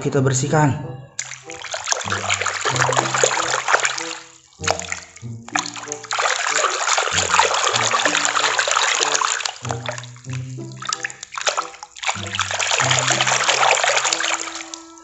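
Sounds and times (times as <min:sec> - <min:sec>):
simple background tune: 0:00.0 - 0:15.0
hand scrubbing plastic toy: 0:01.2 - 0:15.0
water splashing in a basin: 0:01.2 - 0:15.0.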